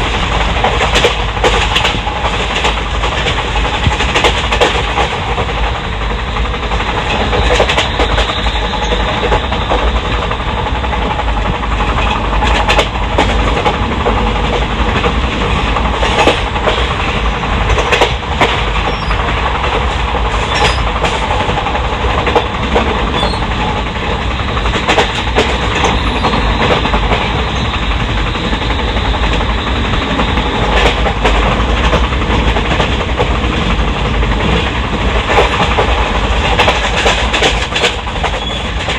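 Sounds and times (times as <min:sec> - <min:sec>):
rail joint clicks and knocks: 0:00.0 - 0:38.9
wheels rumbling on rail: 0:00.0 - 0:38.9.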